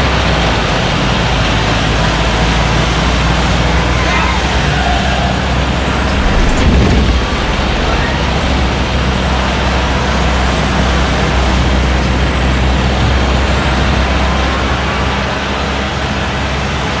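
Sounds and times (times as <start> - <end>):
diesel truck engine running: 0.0 - 17.0
road noise: 0.0 - 17.0.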